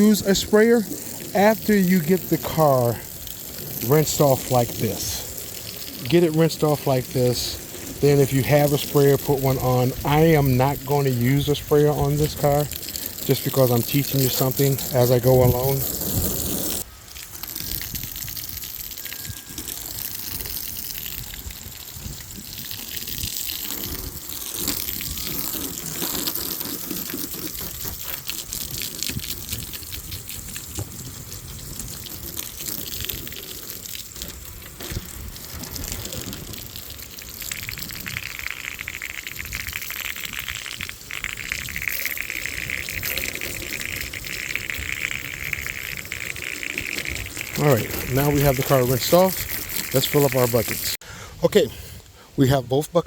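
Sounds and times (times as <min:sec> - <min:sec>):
hose water splashing on car: 0:00.0 - 0:52.3.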